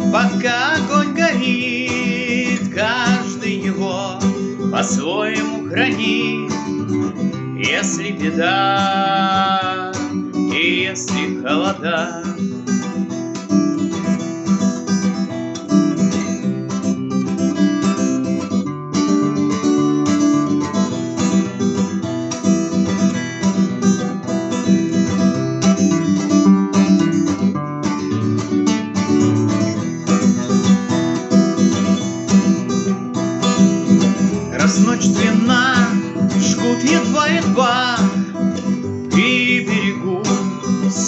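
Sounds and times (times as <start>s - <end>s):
acoustic guitar strummed and picked: 0.0s - 41.0s.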